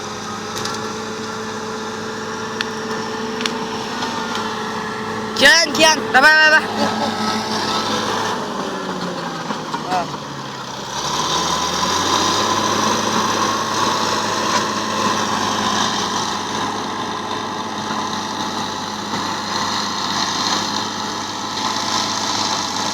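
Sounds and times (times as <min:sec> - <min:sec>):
bulldozer diesel engine running: 0:00.0 - 0:22.9.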